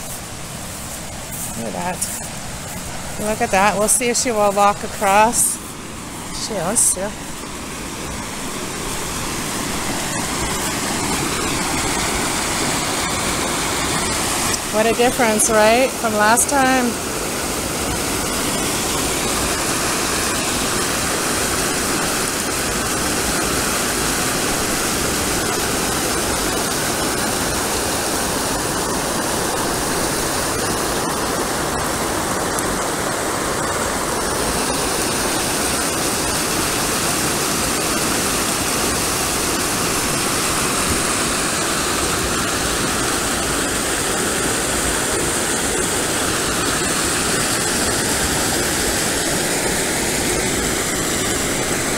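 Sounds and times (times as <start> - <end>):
river water rushing over falls: 0.0 - 51.9.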